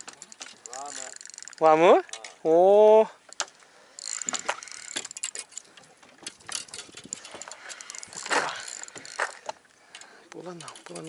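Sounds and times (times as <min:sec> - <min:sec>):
fishing reel clicking: 0:00.0 - 0:02.3, 0:03.3 - 0:11.0.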